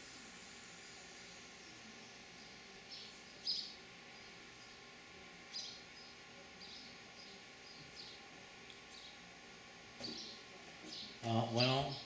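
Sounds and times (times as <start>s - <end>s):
sparrows chirping: 0.9s - 9.3s, 10.0s - 12.0s.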